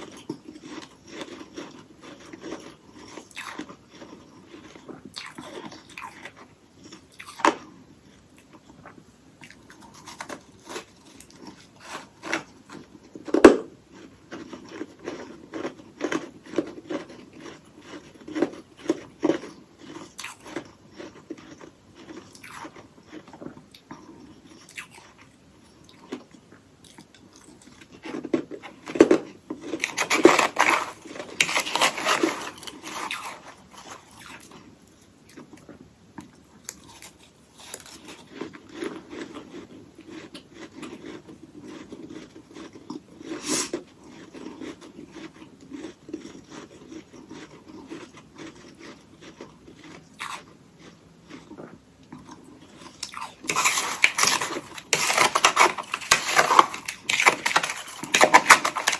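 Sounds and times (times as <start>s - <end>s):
ice being bitten and chewed: 0.0s - 34.7s, 35.3s - 58.9s.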